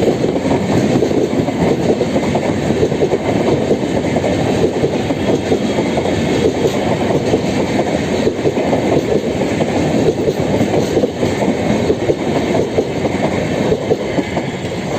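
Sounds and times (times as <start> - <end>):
clatter of rail joints: 0.0 - 14.9
train wheels rumbling on track: 0.0 - 14.9.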